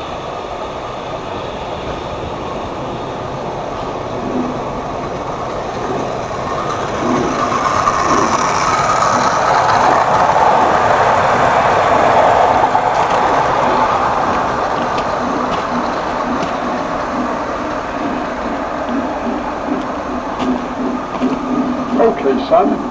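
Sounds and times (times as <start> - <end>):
rumble of passing train: 0.0 - 22.9.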